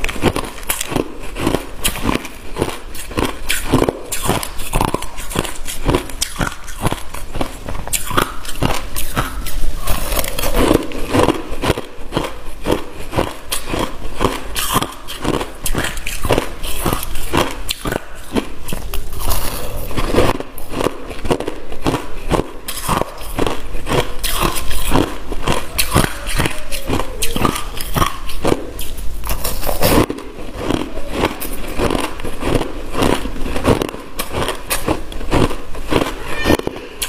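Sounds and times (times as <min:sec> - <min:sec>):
chewing crushed ice: 0:00.0 - 0:37.0.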